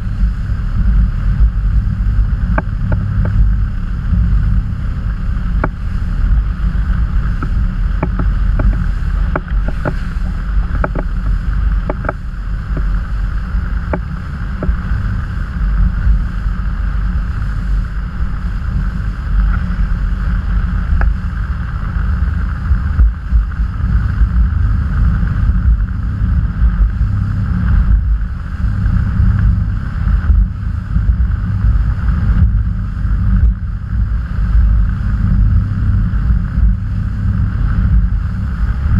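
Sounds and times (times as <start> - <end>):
motorboat engine drone: 0.0 - 38.9
wind rumble on microphone: 0.0 - 38.9.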